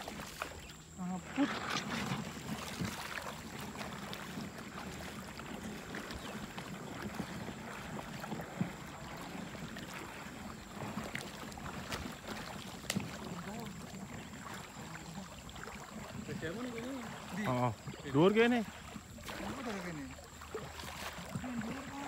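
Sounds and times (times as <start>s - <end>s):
water splashing from wading: 0.0s - 22.0s.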